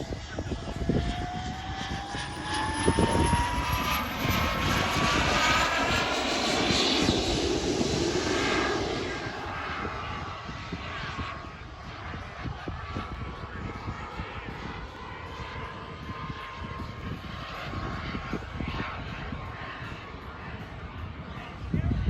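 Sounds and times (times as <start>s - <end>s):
jet turbine whining: 0.0s - 22.0s
wind buffeting microphone: 0.0s - 22.0s.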